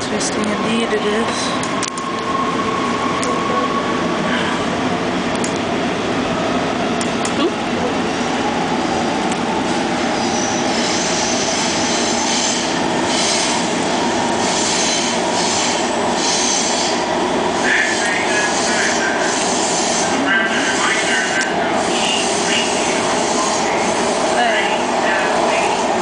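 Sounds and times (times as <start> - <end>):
subway car rumble: 0.0 - 26.0.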